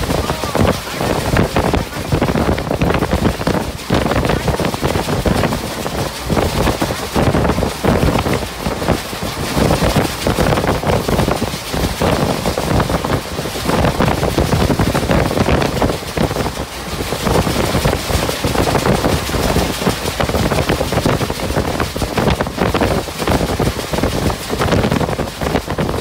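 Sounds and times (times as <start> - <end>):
train rushing along track: 0.0 - 26.0
wind buffeting microphone: 0.0 - 26.0.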